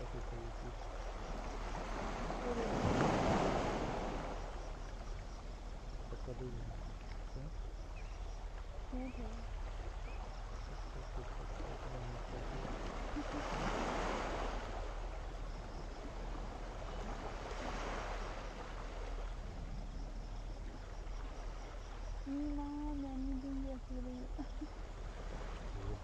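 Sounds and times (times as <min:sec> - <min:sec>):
small waves washing onto shore: 0:00.0 - 0:22.3, 0:22.9 - 0:26.0.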